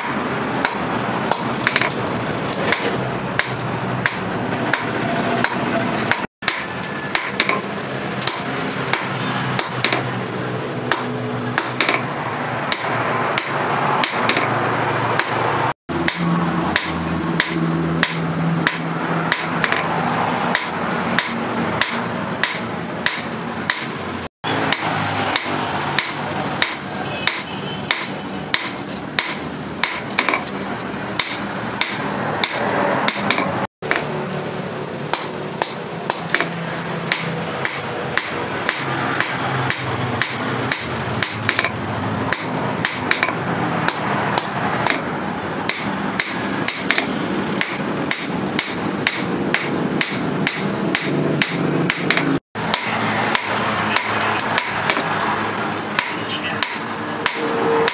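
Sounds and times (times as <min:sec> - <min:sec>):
hammer striking steel on anvil: 0:00.0 - 0:14.6, 0:15.2 - 0:30.6, 0:31.2 - 0:55.2, 0:55.9 - 0:57.9
steady background noise: 0:00.0 - 0:57.9.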